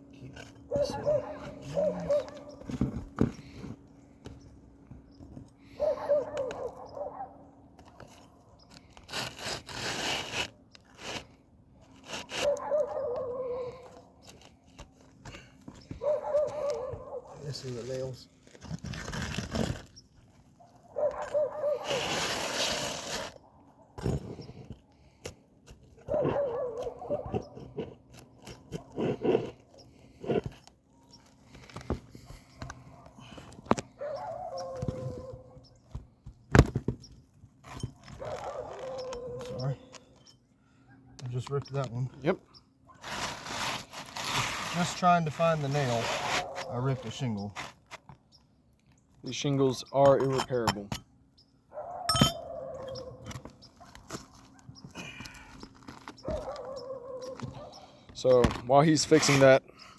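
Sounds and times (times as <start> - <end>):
shingle crunching and scraping: 0.0 - 40.4, 41.3 - 51.0, 52.4 - 59.6.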